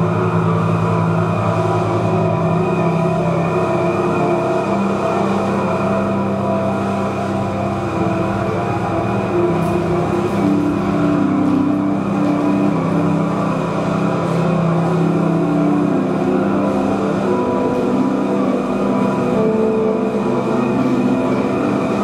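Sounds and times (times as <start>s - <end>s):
synthesizer drone: 0.0s - 22.0s.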